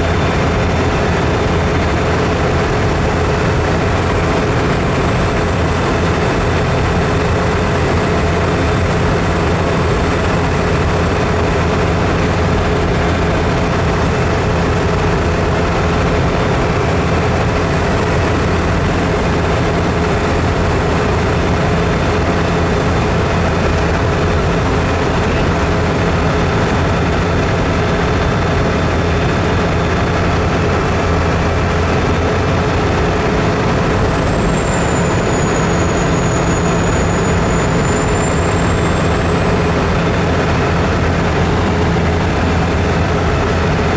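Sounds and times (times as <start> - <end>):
engine and road drone: 0.0 - 43.9.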